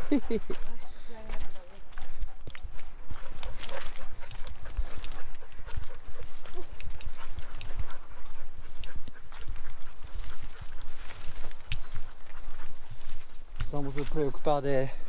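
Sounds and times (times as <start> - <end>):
dog sounds: 0.0 - 14.9
footsteps on rocky trail: 0.0 - 15.0.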